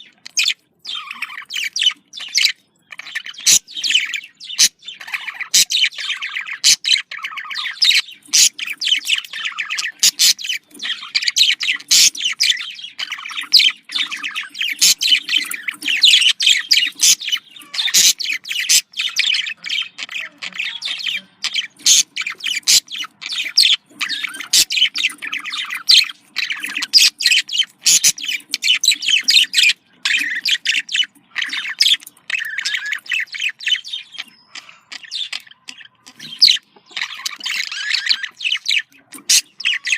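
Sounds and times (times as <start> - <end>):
budgerigars warbling and chattering: 0.0 - 39.9.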